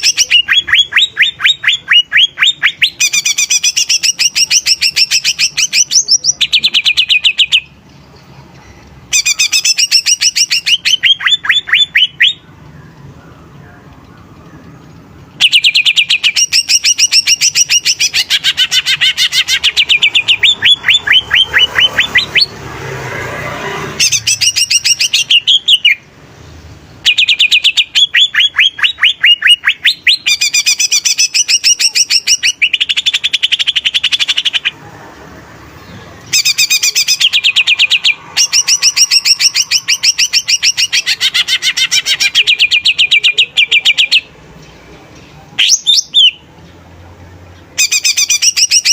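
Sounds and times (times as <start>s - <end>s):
bird singing fast chattering: 0.0s - 8.1s, 8.9s - 22.6s, 24.0s - 34.8s, 35.8s - 44.9s, 45.6s - 46.9s, 47.5s - 48.9s.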